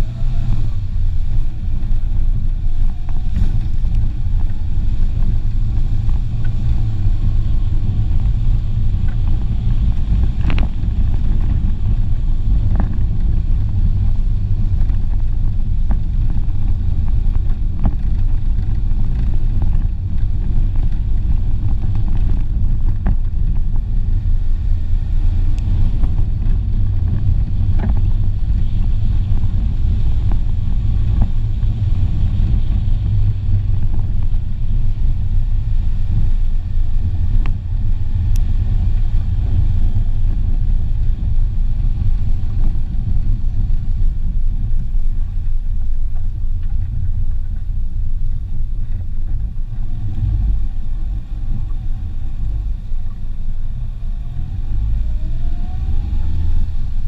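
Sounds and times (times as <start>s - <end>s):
car driving on dirt track: 0.0s - 57.0s.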